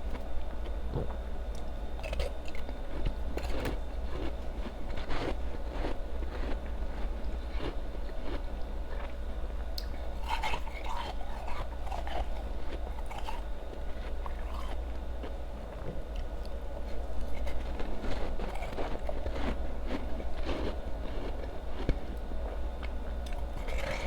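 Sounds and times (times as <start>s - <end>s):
steady low hum: 0.0s - 24.0s
ice being chewed: 0.1s - 24.0s.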